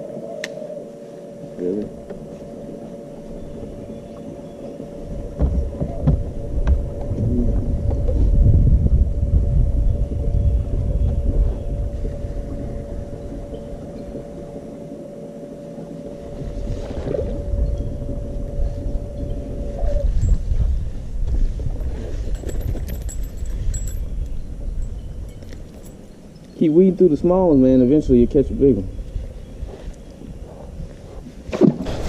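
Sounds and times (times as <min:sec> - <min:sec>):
wind rumble on microphone: 0:01.7 - 0:32.0.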